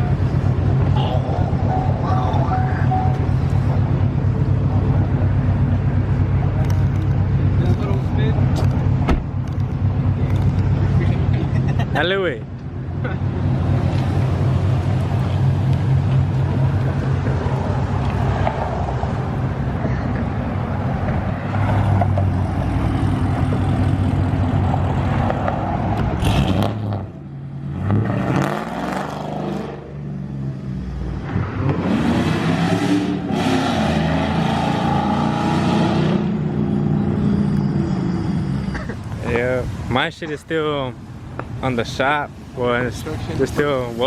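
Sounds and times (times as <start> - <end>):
vehicle engine idling and revving: 0.0 - 44.0.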